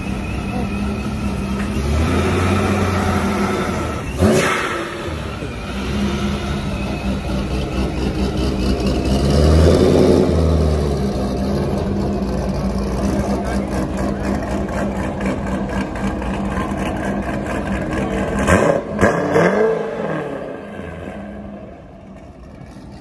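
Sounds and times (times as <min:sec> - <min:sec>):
car engine running at low speed: 0:00.0 - 0:19.4.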